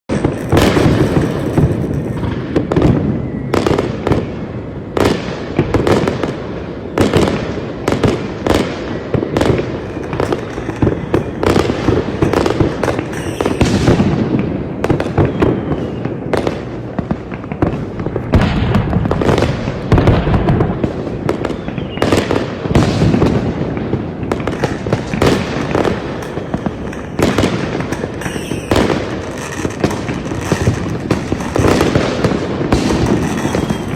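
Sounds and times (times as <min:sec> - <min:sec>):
fireworks bangs: 0:00.1 - 0:33.9.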